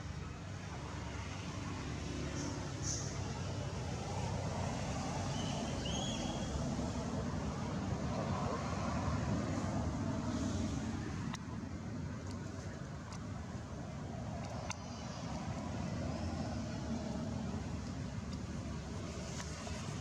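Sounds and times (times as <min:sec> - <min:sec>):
low rumbling background noise: 0:00.0 - 0:20.0.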